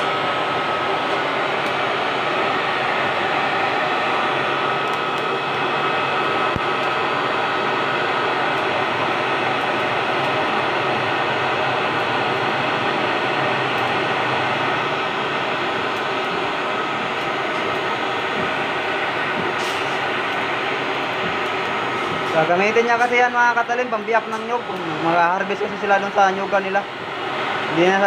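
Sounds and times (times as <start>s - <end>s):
forge blower rushing air: 0.0s - 28.0s.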